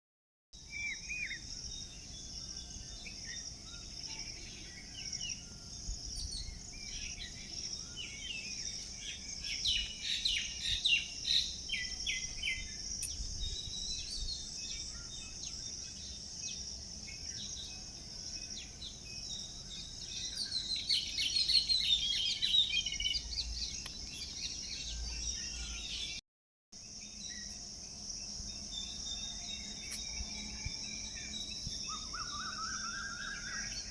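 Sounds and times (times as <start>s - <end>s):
high insect drone: 0.6s - 26.1s, 26.8s - 33.9s
small birds chirping: 0.6s - 26.2s, 26.8s - 33.9s.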